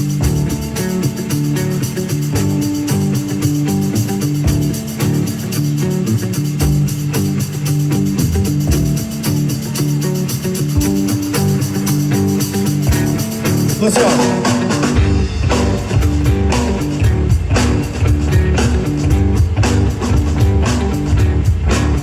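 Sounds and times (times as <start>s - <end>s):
bass guitar: 0.0s - 22.0s
drums keeping a beat: 0.0s - 22.0s
electric guitar: 0.0s - 22.0s.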